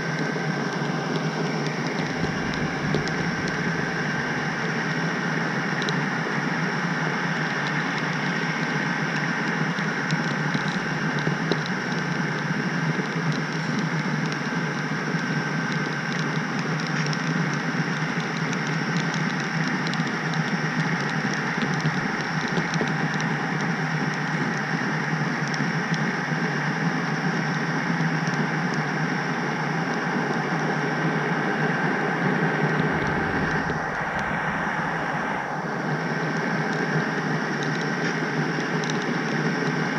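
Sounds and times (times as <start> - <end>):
faint track clicks: 0.0 - 26.1, 32.1 - 39.9
constant high whine: 0.0 - 39.9
model train rolling hum: 0.0 - 39.9.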